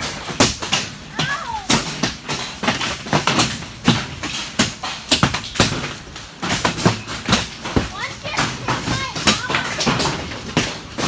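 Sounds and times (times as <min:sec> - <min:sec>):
hailstones hitting metal: 0:00.0 - 0:11.0.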